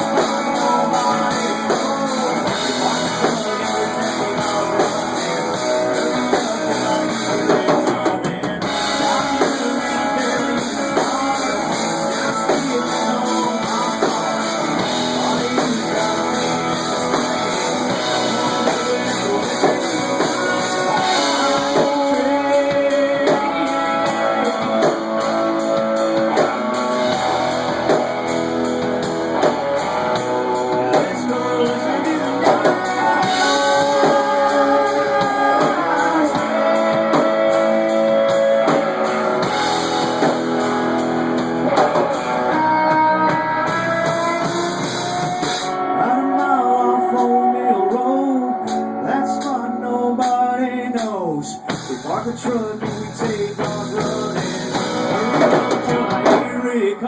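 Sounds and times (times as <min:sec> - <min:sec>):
person singing: 0:00.0 - 0:57.0
rock band playing live: 0:00.0 - 0:57.0.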